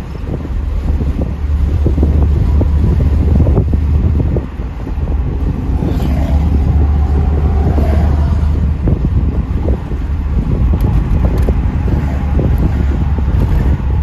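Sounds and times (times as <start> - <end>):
car engine drone from inside: 0.0 - 14.0
wind buffeting microphone: 0.0 - 14.0.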